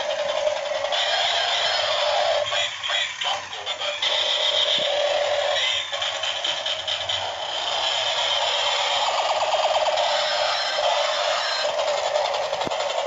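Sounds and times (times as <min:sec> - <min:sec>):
toy electronic music and effects: 0:00.0 - 0:13.0.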